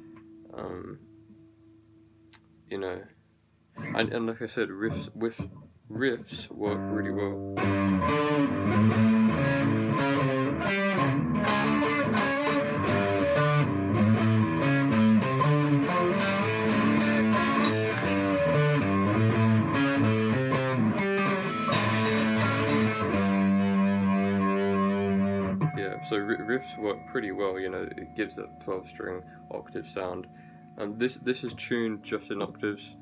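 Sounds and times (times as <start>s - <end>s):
electric twelve-string guitar riff: 6.3s - 33.0s.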